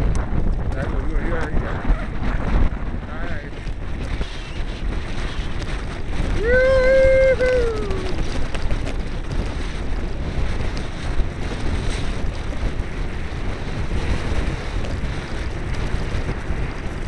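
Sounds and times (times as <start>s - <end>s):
bike rattling on dirt track: 0.0s - 17.0s
wind rushing over microphone: 0.0s - 17.0s.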